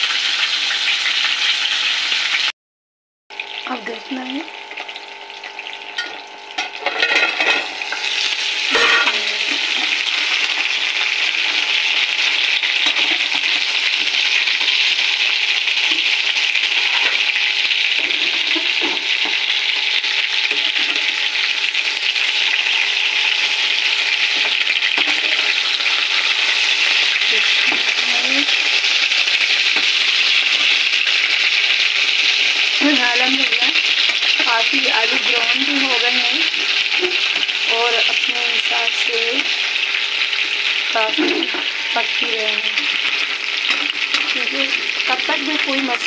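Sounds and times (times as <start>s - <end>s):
potatoes sizzling in oil: 0.0s - 2.5s, 3.3s - 46.0s.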